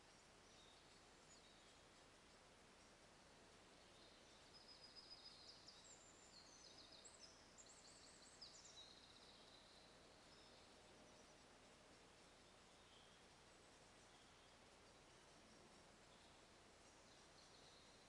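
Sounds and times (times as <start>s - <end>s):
faint steady hiss: 0.0s - 18.0s
songbird chirping: 0.0s - 18.0s.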